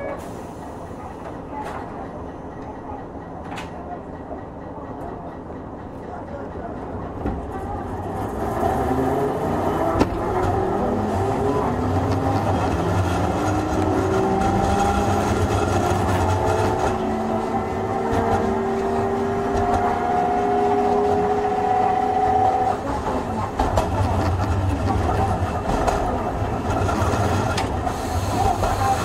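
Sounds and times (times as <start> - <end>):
tram motor rumble and whine: 0.0 - 29.0.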